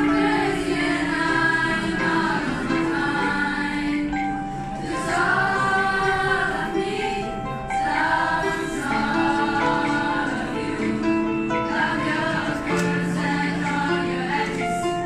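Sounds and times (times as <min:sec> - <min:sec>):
youth choir singing: 0:00.0 - 0:15.0.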